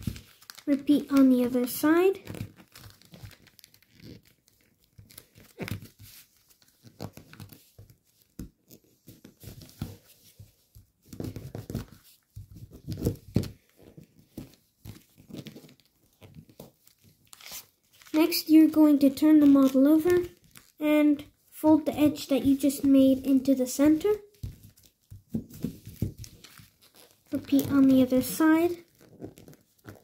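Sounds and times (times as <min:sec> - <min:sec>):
foil paper crinkling: 0:00.0 - 0:08.4, 0:11.1 - 0:21.3, 0:23.9 - 0:30.0.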